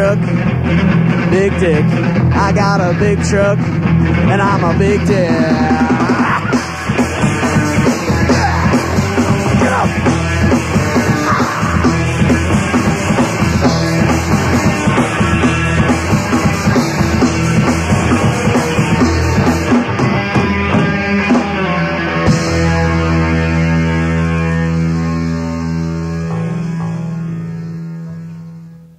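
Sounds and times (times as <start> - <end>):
punk rock band playing: 0.0 - 28.6.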